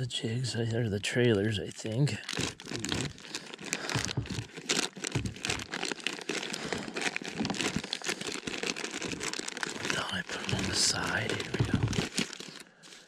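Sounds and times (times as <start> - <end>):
plastic packages crinkling: 1.2 - 13.0.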